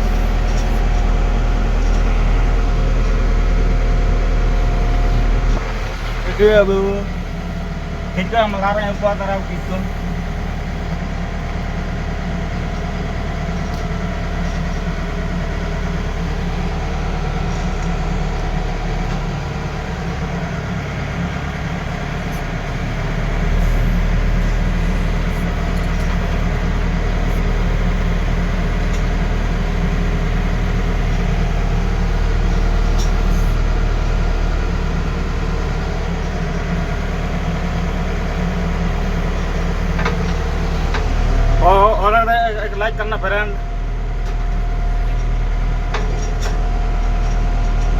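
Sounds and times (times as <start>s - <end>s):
heavy diesel engine under load: 0.0s - 47.9s.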